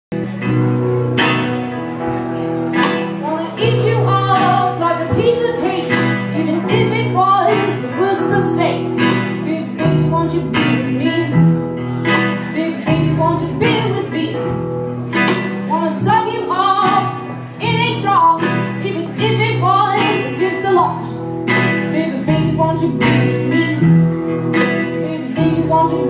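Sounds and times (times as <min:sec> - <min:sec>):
electric guitar: 0:00.1 - 0:26.0
drums: 0:00.2 - 0:26.0
woman singing: 0:03.0 - 0:26.0.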